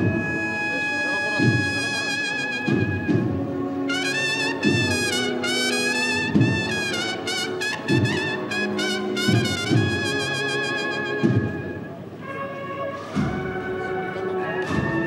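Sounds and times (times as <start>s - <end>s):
brass band playing slow march: 0.0s - 15.0s.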